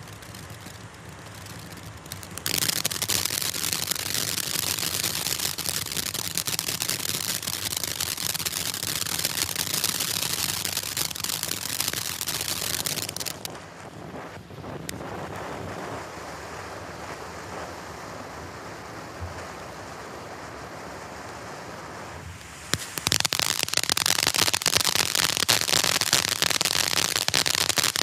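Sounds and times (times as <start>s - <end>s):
firework fountain crackling: 0.0s - 28.0s
firework fountain hiss: 0.0s - 28.0s.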